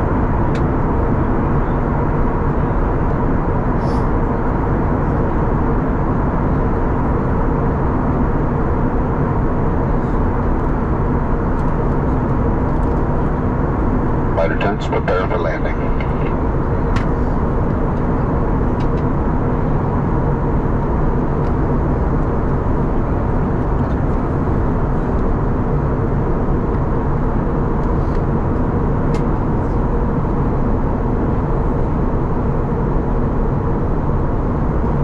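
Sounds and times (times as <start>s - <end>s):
faint steady hum: 0.0s - 35.0s
jet engine noise in cabin: 0.0s - 35.0s.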